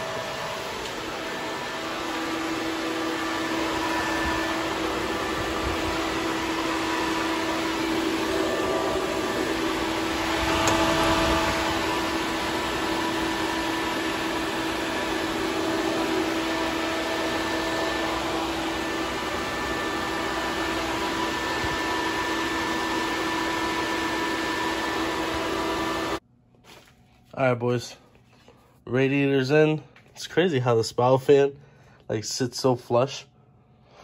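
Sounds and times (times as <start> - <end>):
cooling fans whirring: 0.0 - 27.3.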